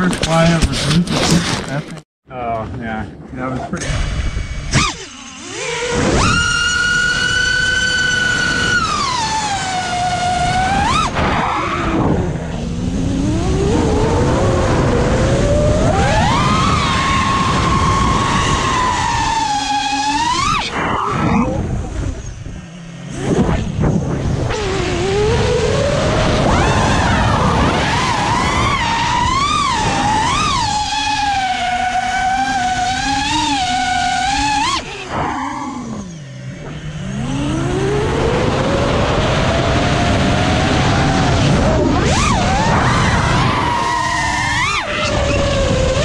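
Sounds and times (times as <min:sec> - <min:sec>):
quadcopter motors whining: 0:03.7 - 0:46.0.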